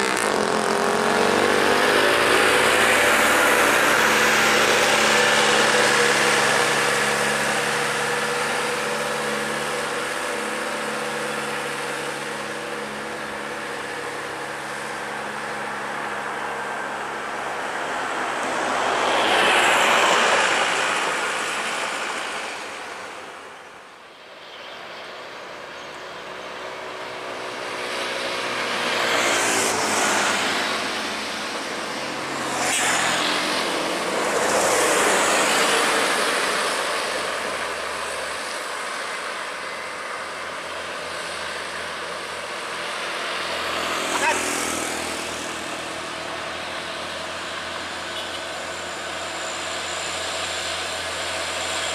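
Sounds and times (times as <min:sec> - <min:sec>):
diesel truck engines droning: 0:00.0 - 0:51.9
vehicles passing by: 0:00.0 - 0:51.9.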